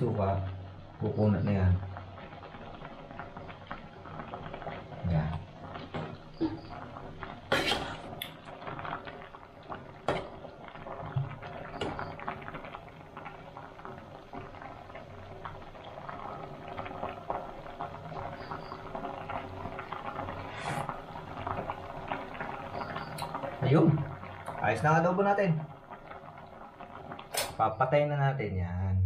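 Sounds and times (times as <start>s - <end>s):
stew boiling in a pot: 0.0s - 28.8s.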